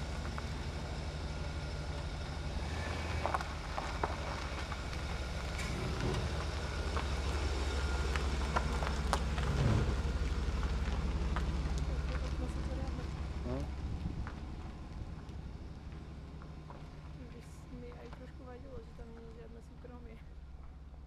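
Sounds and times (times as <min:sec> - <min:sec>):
van engine idling: 0:00.0 - 0:21.0
van pulling away: 0:00.0 - 0:21.0.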